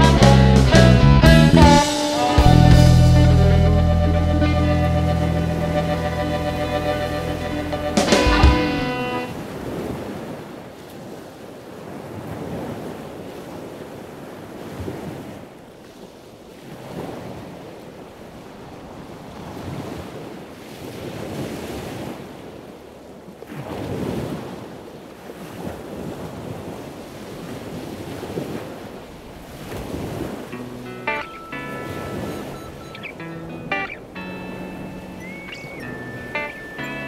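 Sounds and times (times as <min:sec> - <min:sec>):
sea waves washing: 0:00.0 - 0:37.0.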